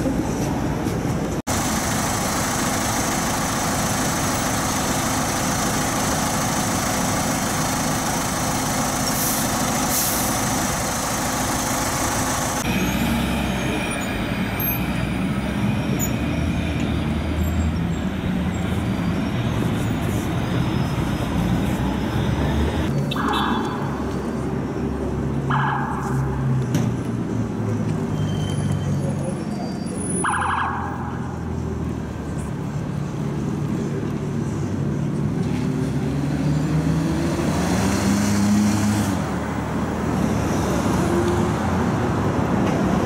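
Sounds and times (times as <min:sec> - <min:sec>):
diesel buses running: 0:00.0 - 0:43.0.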